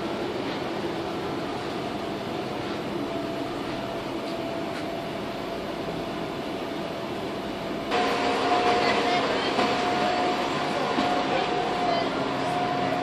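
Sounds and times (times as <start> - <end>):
faint steady whine: 0.0 - 13.0
train cabin rumble and hum: 0.0 - 13.0.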